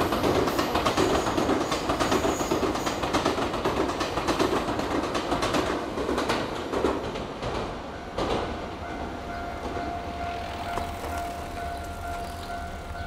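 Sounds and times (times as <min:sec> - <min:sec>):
train wheels clattering over rail joints: 0:00.0 - 0:13.0.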